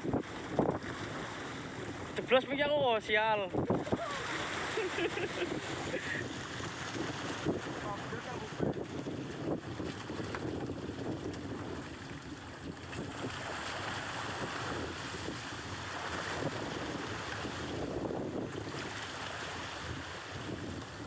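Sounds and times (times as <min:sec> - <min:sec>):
sea water washing: 0:00.0 - 0:21.0
wind buffeting microphone: 0:00.0 - 0:21.0.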